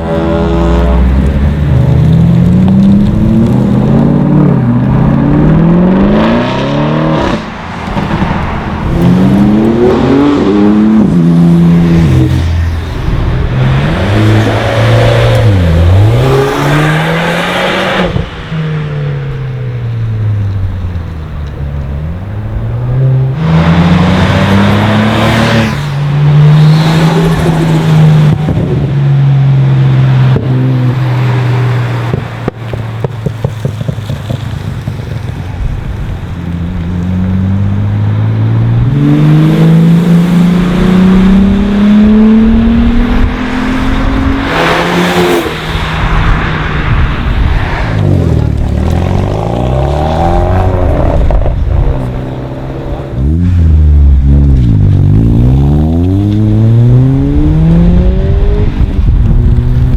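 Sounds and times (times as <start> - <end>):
cars passing under hard acceleration: 0.0 - 59.9.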